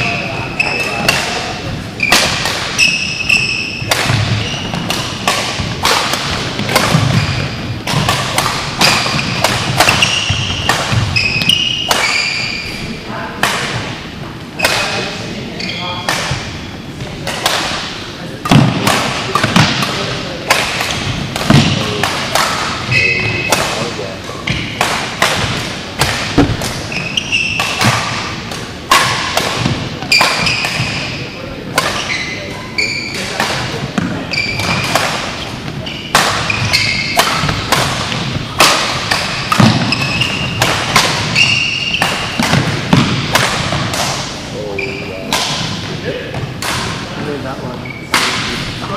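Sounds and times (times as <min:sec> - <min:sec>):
rackets hitting shuttlecock: 0:00.0 - 0:12.8, 0:13.4 - 0:47.4, 0:48.0 - 0:48.9
shoes squeaking on court floor: 0:00.0 - 0:13.0, 0:13.8 - 0:17.9, 0:19.3 - 0:24.8, 0:25.4 - 0:48.9.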